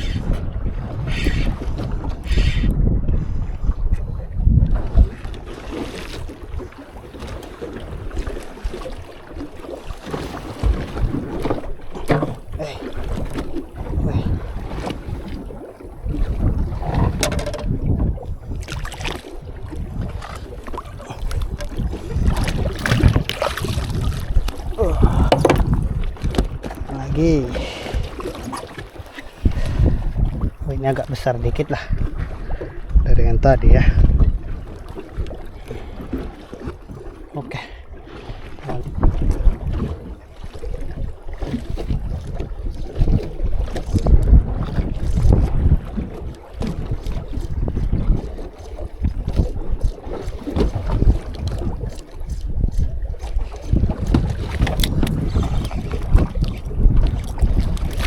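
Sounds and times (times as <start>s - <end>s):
small boat rumble: 0.0s - 58.0s
water knocking and splashing hull: 0.0s - 58.0s
wind buffeting microphone: 0.0s - 58.0s.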